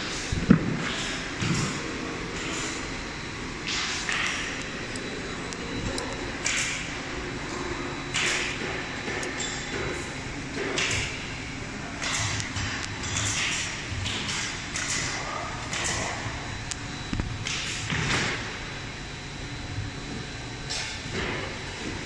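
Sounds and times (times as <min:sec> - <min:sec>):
low steady machinery hum: 0:00.0 - 0:22.0.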